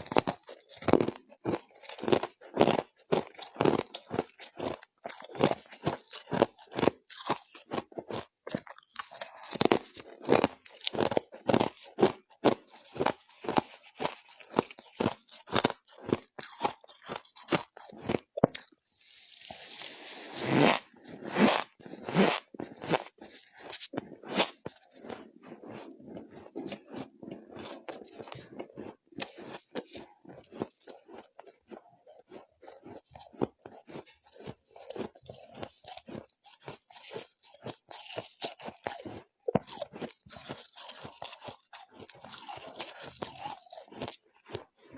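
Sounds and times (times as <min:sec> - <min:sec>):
crunching and chewing ice: 0:00.0 - 0:44.9.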